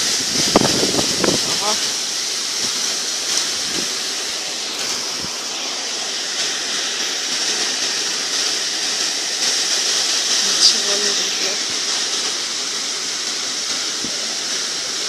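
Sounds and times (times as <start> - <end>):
rain falling in wind: 0.0 - 15.0.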